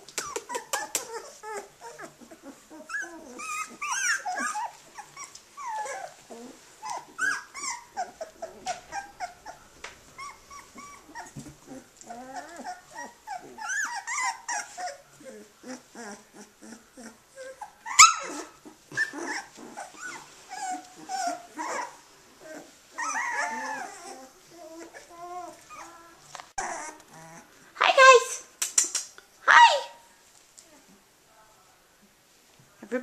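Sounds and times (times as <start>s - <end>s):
puppy yelp: 0.2s - 9.6s, 10.2s - 28.4s
puppies crying and squeaking: 0.2s - 27.6s.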